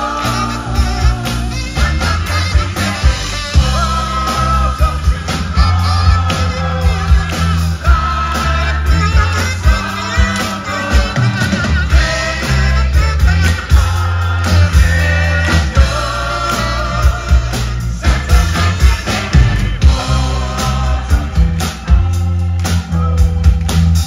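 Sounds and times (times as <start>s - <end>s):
backing singers singing: 0.0s - 22.2s
lead vocal singing: 0.0s - 23.4s
live rock band playing: 0.0s - 24.0s.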